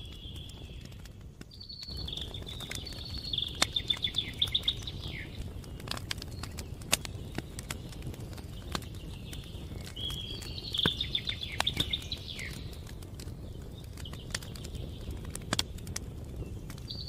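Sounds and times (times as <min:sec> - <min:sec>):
songbird singing a trill: 0:00.0 - 0:15.3, 0:16.4 - 0:17.0
campfire crackling and popping: 0:00.0 - 0:17.0
low rumble of fire: 0:00.0 - 0:17.0.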